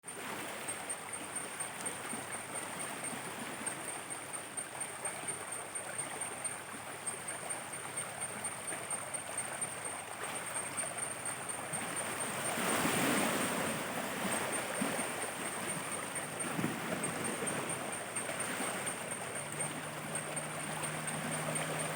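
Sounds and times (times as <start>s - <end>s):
stream running and gurgling: 0.0s - 21.9s.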